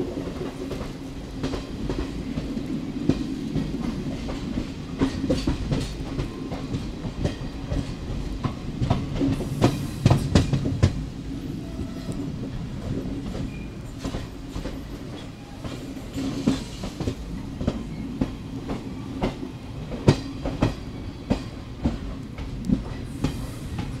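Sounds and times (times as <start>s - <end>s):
train wheels clacking: 0.2s - 24.0s.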